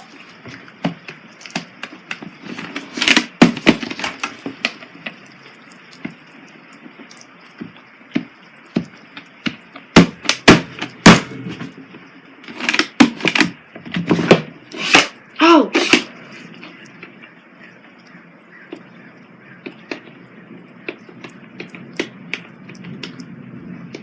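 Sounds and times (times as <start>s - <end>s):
low background hiss: 0.0s - 24.0s
irregular knocks and clicks: 0.4s - 14.5s, 18.0s - 24.0s.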